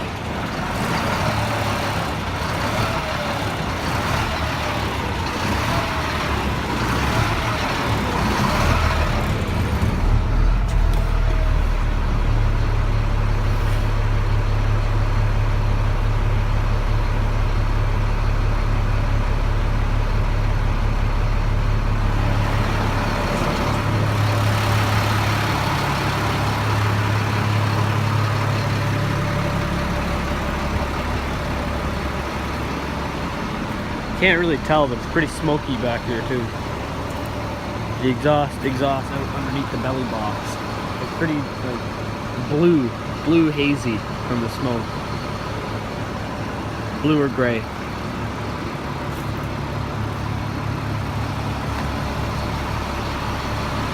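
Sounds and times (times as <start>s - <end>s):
diesel truck engine idling: 0.0s - 53.9s.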